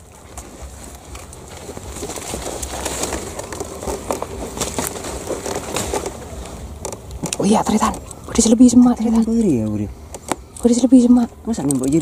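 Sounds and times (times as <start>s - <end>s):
rustling and clicks of gear: 0.0s - 10.8s, 11.5s - 12.0s
dove cooing: 0.0s - 11.7s.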